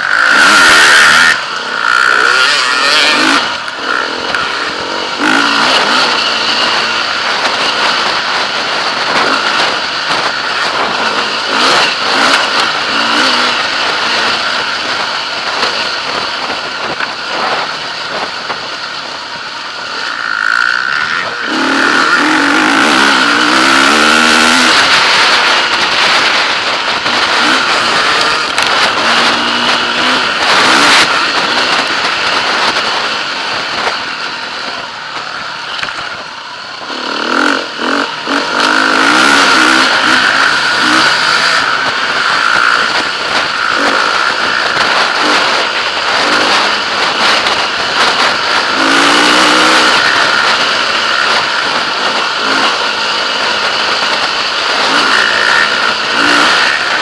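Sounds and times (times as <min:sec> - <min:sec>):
wind rush on microphone: 0:00.0 - 0:20.2, 0:20.9 - 0:57.0
motorcycle engine revving: 0:00.0 - 0:57.0.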